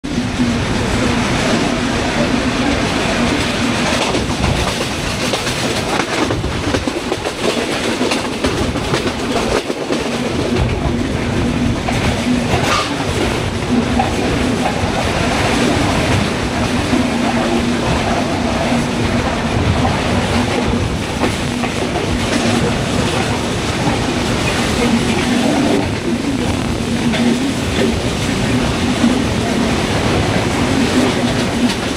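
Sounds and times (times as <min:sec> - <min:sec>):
train rumble and rush: 0:00.0 - 0:31.9
wheels clattering over rail joints: 0:00.1 - 0:31.9.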